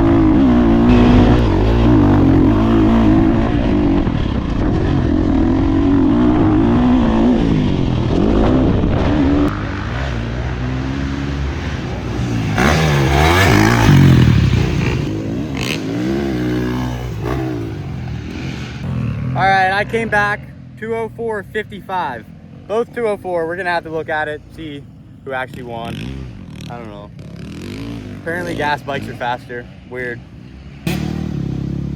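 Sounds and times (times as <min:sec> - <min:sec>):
motocross bike engine revving: 0:00.0 - 0:31.9.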